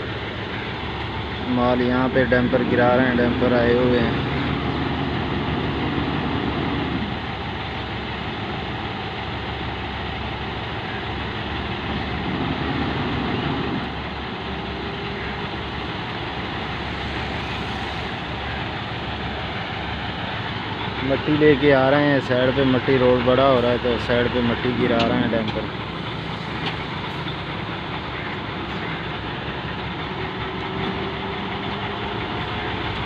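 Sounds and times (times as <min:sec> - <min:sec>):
dump truck engine running: 0:00.0 - 0:33.0.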